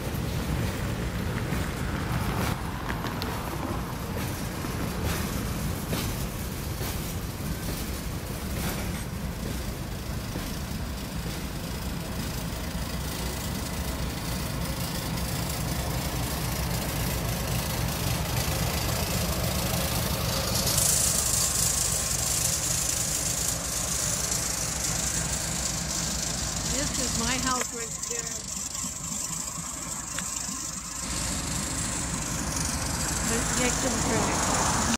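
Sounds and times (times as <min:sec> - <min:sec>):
diesel locomotive engine rumble: 0:00.0 - 0:34.9
freight train rolling past: 0:00.0 - 0:34.9
loud hiss: 0:03.5 - 0:34.9.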